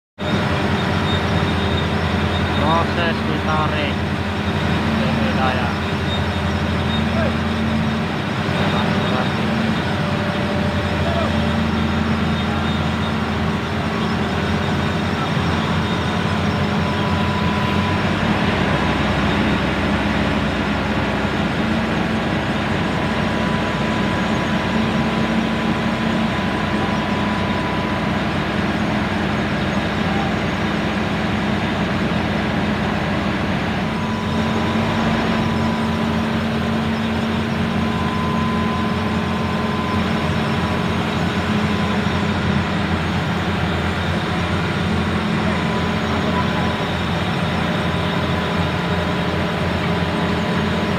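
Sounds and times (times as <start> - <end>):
heavy diesel engine running: 0.2 - 50.9.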